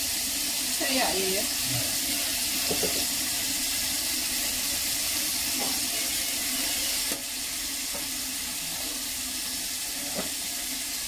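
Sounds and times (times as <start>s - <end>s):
cucumber sizzling in frying pan: 0.0s - 11.0s.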